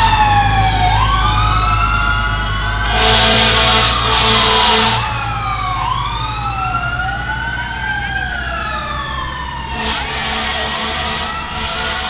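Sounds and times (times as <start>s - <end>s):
fire truck sirens wailing: 0.0s - 12.0s.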